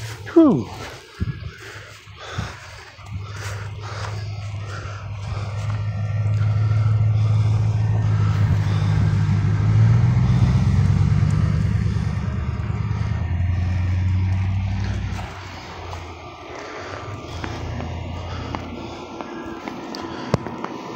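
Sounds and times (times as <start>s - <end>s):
vehicle engine humming: 0.0s - 20.9s.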